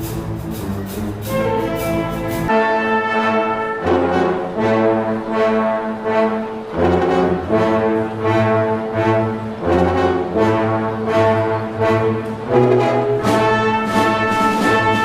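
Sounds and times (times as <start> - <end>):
orchestral brass music: 0.0 - 15.0.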